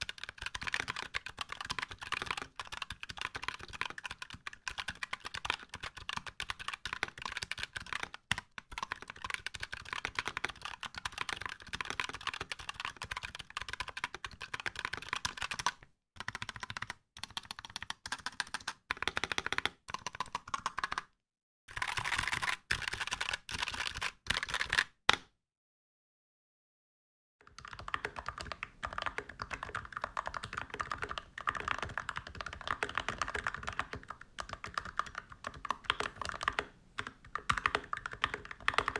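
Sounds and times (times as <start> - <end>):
mechanical keyboard typing: 0.0 - 21.1, 21.7 - 25.0, 27.4 - 38.9.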